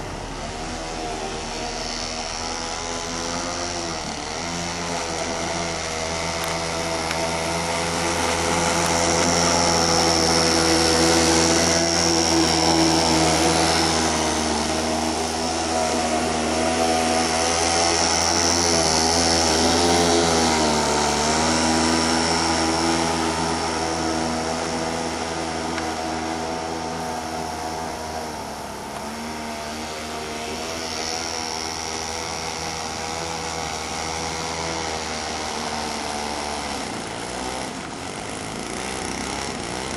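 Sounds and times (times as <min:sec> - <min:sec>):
small string trimmer engine running: 0:00.0 - 0:39.9.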